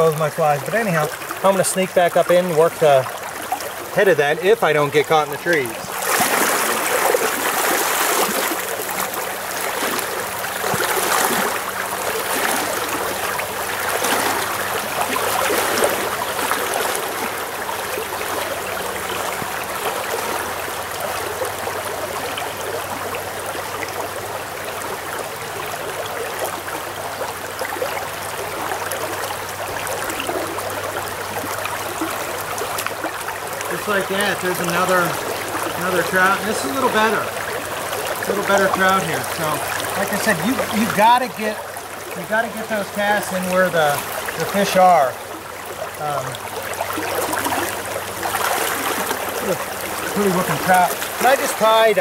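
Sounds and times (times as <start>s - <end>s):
legs splashing through water: 0.0s - 52.0s
stream flowing over riffles: 0.0s - 52.0s.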